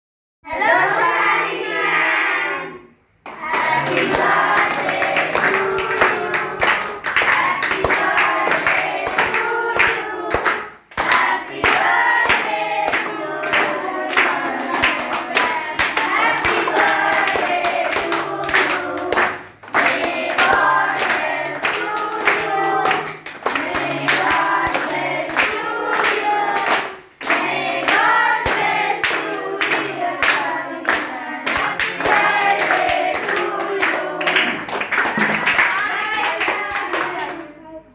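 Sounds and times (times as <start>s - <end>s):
children singing together: 0.4s - 37.8s
children clapping: 3.2s - 37.6s.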